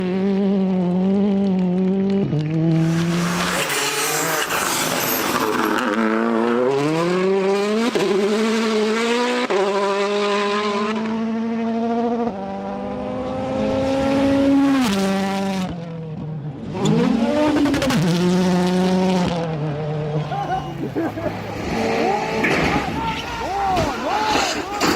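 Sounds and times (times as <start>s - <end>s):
race car engine accelerating: 0.0s - 23.1s.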